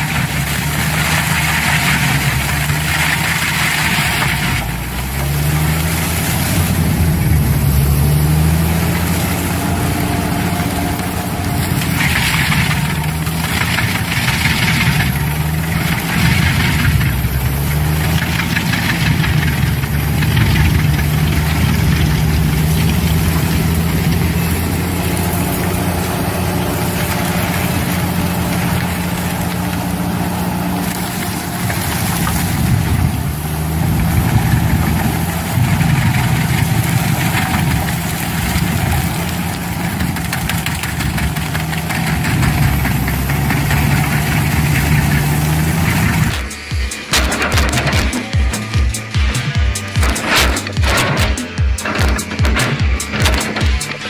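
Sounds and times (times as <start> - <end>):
forestry machine engine running: 0.0 - 54.0
harsh grinding noise: 0.0 - 54.0.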